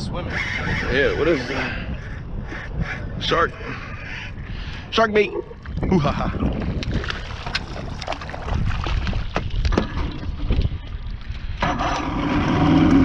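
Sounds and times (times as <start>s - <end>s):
water slapping boat hull: 0.0s - 13.0s
wind buffeting microphone: 0.0s - 13.0s.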